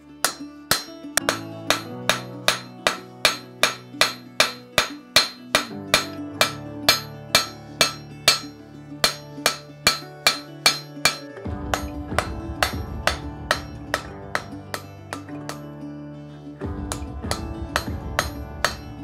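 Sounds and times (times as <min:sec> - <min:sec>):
quiet instrumental music: 0:00.0 - 0:19.0
hammer striking iron on anvil: 0:00.2 - 0:15.6, 0:16.9 - 0:19.0.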